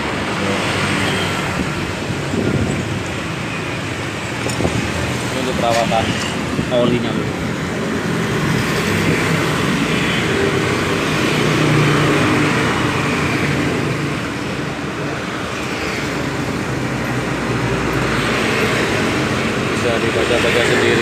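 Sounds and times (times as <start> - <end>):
steady engine noise: 0.0 - 21.0.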